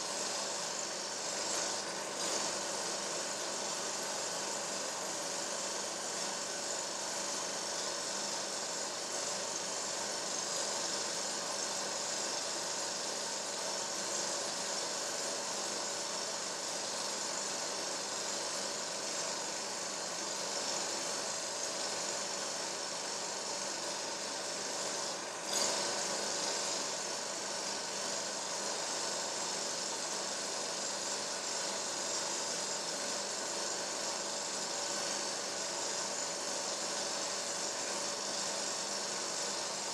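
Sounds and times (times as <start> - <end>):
mechanical hum and hiss: 0.0 - 39.9.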